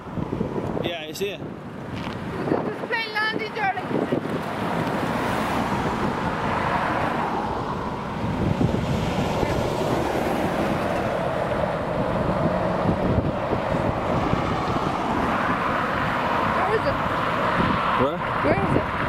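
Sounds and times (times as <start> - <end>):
cars and lorries passing: 0.0 - 19.0
wind on microphone: 0.0 - 19.0.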